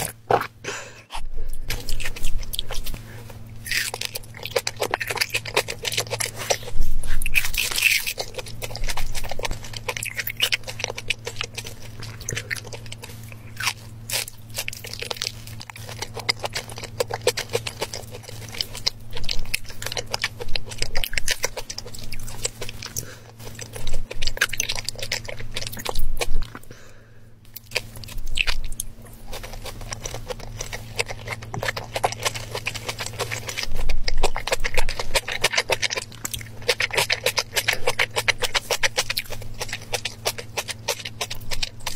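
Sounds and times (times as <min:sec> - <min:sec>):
close chewing with mouth clicks: 0:00.0 - 0:41.9
steady low hum: 0:00.0 - 0:41.9.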